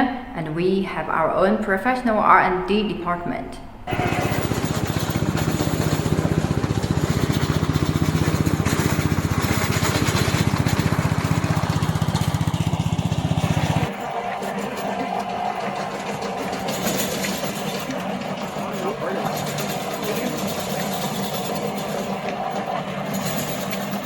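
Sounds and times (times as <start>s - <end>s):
lawn mower engine running: 3.9s - 24.0s.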